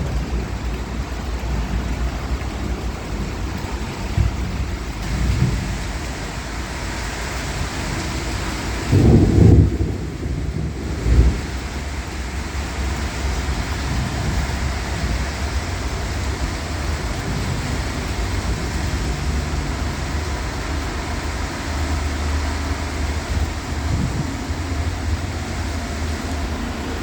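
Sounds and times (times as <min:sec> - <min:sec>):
continuous low rumble: 0:00.0 - 0:27.0
steady rain: 0:00.0 - 0:27.0
strong wind: 0:00.0 - 0:27.0.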